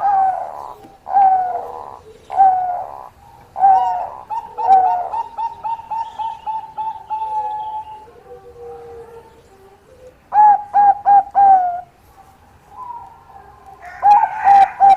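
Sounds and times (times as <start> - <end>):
dove cooing: 0.0 - 14.9.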